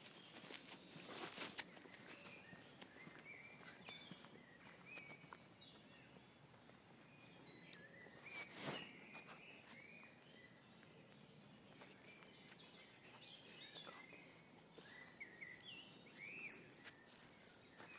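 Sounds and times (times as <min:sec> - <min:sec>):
birds chirping and whistling: 0:00.2 - 0:06.3, 0:06.9 - 0:17.9.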